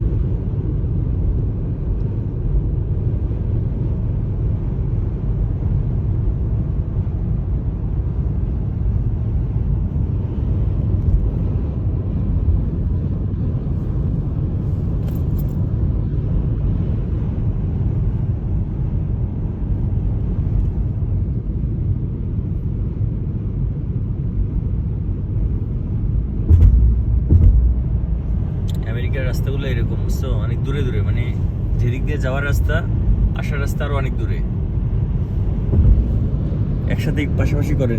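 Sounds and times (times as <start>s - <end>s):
car rumbling on road: 0.0s - 37.9s.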